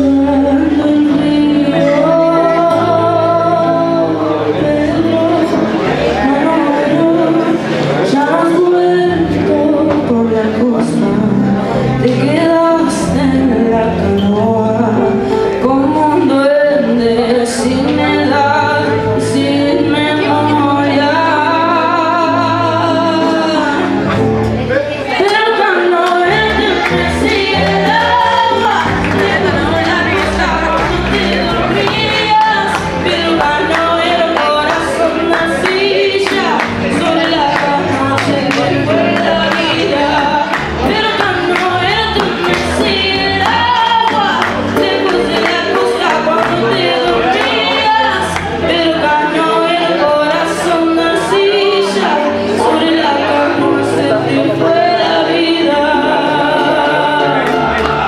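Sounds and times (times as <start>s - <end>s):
woman singing into a microphone: 0.0s - 24.4s, 25.1s - 58.0s
acoustic guitar: 0.0s - 58.0s
electronic keyboard: 0.0s - 58.0s
instrumental backing: 0.0s - 58.0s.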